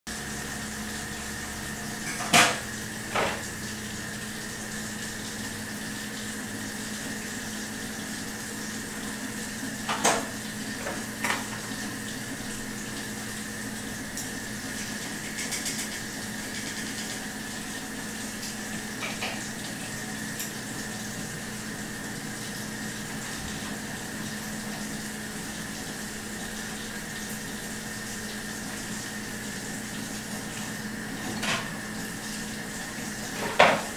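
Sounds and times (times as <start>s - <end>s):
electrical hum and hiss: 0.1s - 33.9s.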